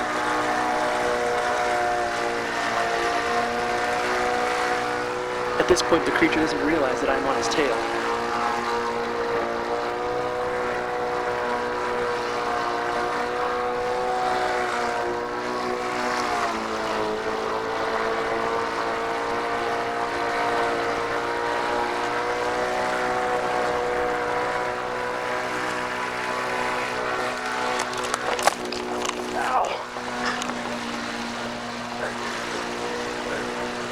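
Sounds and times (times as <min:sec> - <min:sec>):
lawn mower engine running: 0:00.0 - 0:33.9.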